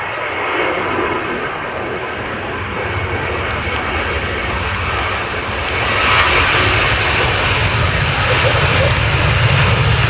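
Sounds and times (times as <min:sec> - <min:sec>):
jet engines at high thrust: 0:00.0 - 0:10.0.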